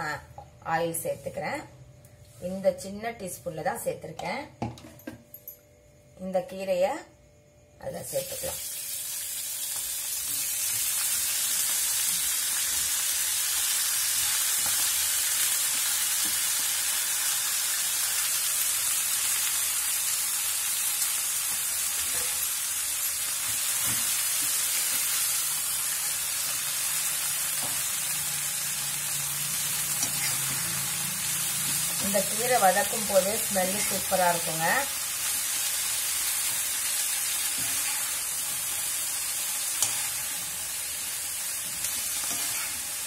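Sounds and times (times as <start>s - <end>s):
leaves sizzling in hot oil: 8.1s - 43.0s.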